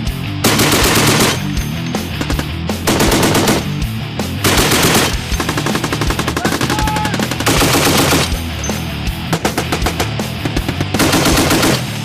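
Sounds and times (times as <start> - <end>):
background music: 0.0 - 12.0
machine gun firing bursts: 0.4 - 1.6, 2.2 - 8.4, 9.3 - 12.0.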